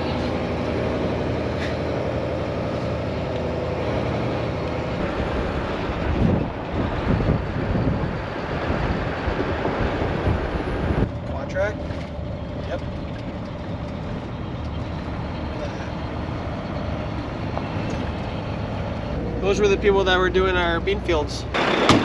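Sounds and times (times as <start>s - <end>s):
farm vehicle engine running: 0.0s - 22.0s
low thumps and buffeting: 0.0s - 22.0s.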